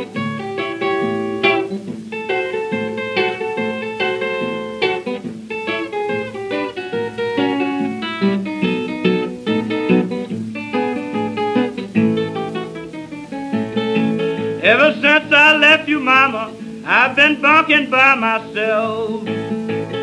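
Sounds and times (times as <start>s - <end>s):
acoustic guitar picking: 0.0s - 20.0s.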